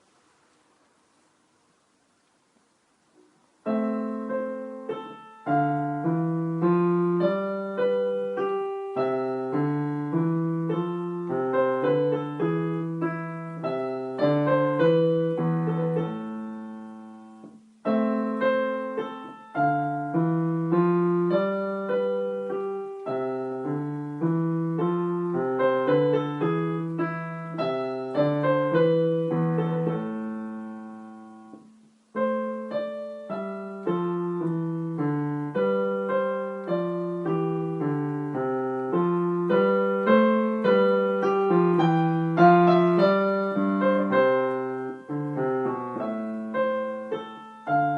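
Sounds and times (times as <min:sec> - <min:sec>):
piano piece: 0:03.2 - 0:47.9.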